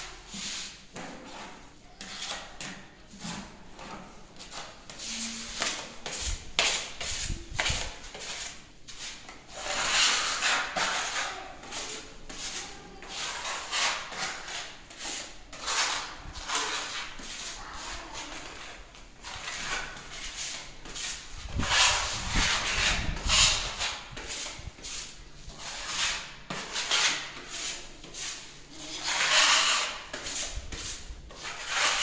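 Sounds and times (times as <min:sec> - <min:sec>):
hand sanding a wall: 0:00.0 - 0:32.0.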